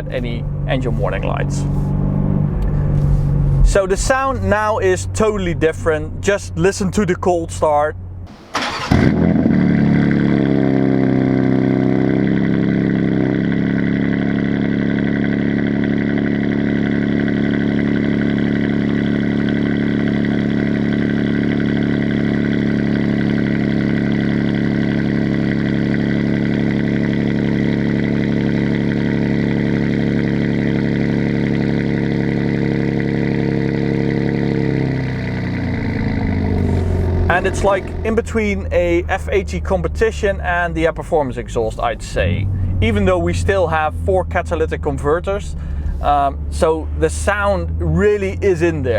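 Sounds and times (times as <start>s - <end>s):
car engine cold start and idle: 0.0s - 48.9s.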